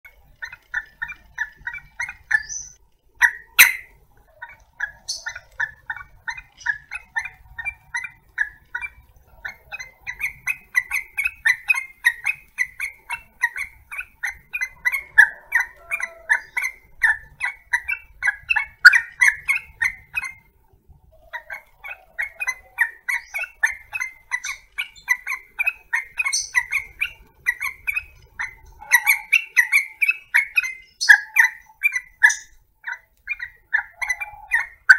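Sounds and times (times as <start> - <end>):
birds chattering calls: 0.1 - 34.9.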